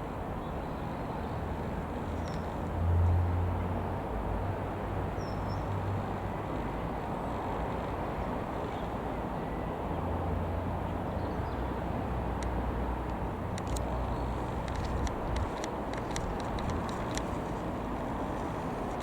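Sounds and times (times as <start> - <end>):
light aircraft engine drone: 0.0 - 19.0.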